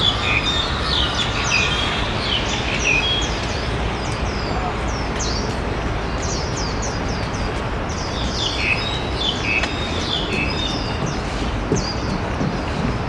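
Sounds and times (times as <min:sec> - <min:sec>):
city noise hum: 0:00.0 - 0:13.0
small birds chirping: 0:00.0 - 0:13.0.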